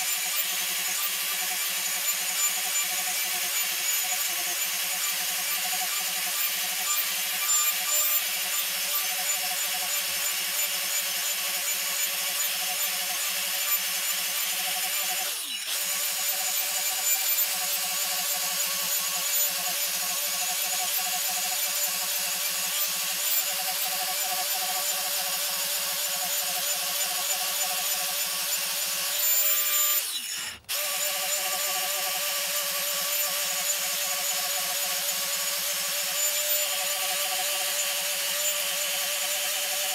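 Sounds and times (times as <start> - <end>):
angle grinder cutting wood: 0.0 - 39.9.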